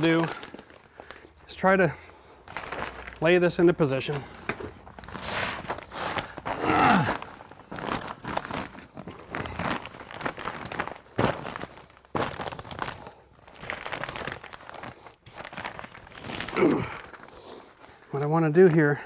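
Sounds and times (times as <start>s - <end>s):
insulation blanket crinkling: 0.0s - 19.0s.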